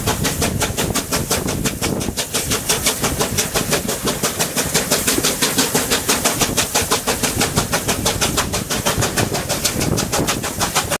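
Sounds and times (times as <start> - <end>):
steam locomotive chuffing: 0.0 - 11.0
train rumbling on rails: 0.0 - 11.0.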